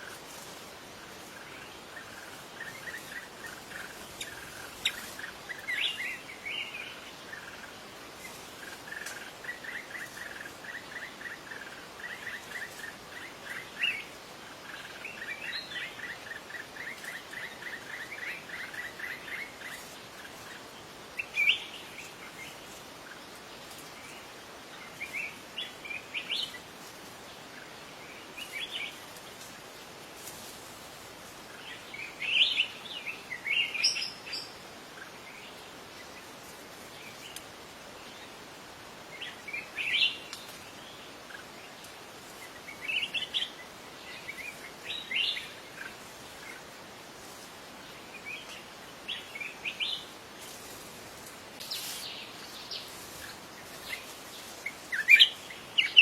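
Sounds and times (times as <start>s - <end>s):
steady outdoor hiss: 0.0s - 56.0s
wild birds singing: 0.0s - 56.0s.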